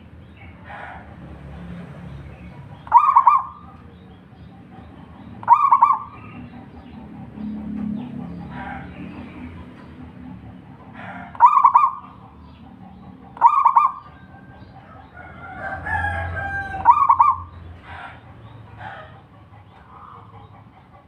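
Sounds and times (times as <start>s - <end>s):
bird calling: 2.3s - 9.9s, 10.8s - 21.0s
dove cooing: 2.5s - 21.0s.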